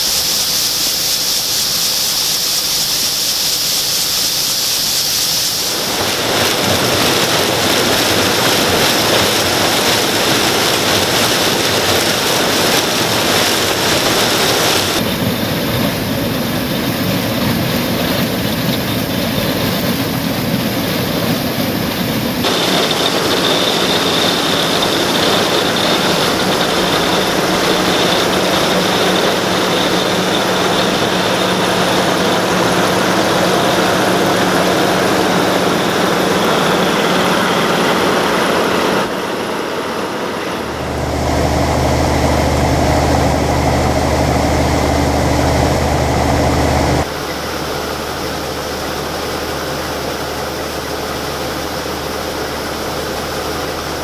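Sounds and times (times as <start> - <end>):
combine engine and machinery noise: 0.0 - 54.0
deep engine hum: 5.7 - 54.0.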